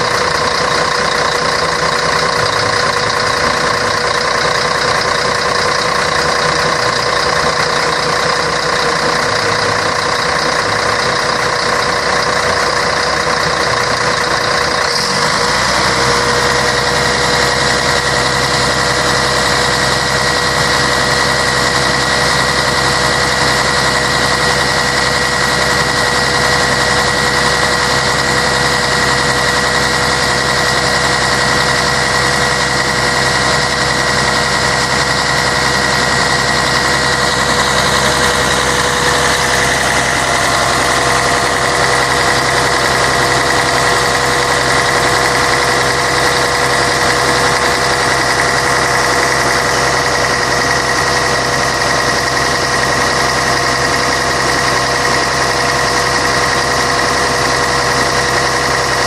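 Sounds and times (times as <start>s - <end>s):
bus diesel engine running: 0.0s - 59.0s
whining tones: 5.3s - 59.0s.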